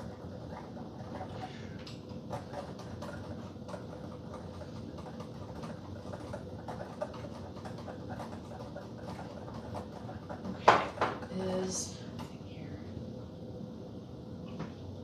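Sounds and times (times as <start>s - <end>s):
utensils and dishes clicking: 0.0s - 12.3s
faint steady hum: 0.0s - 15.0s.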